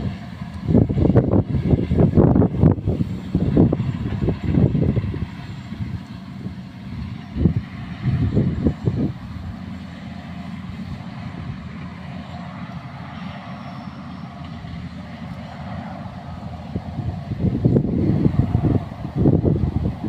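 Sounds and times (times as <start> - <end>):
steady low rumble: 0.0 - 20.0
wind buffeting microphone: 0.0 - 20.0.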